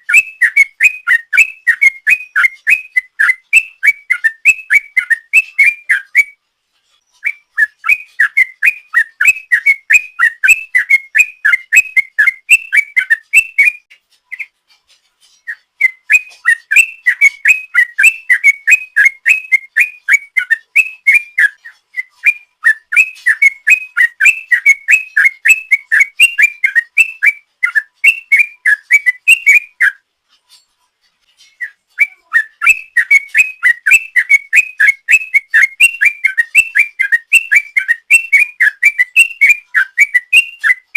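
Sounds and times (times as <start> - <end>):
bird singing bubbly whistles: 0.0 - 6.4, 7.2 - 13.8, 15.5 - 30.0, 31.6 - 40.9.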